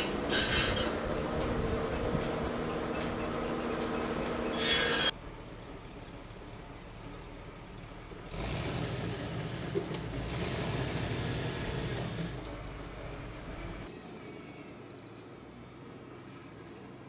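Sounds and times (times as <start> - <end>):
cart rolling on steel rails: 0.0 - 13.8.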